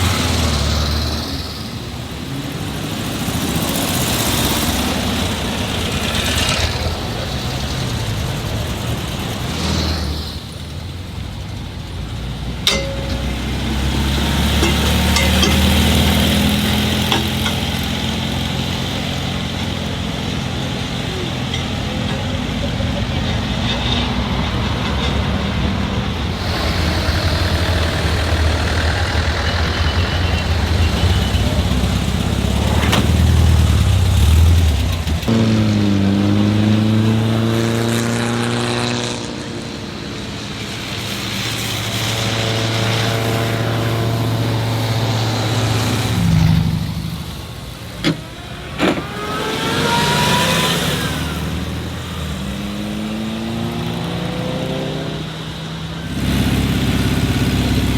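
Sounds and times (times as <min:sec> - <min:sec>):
old car engines revving: 0:00.0 - 0:57.9.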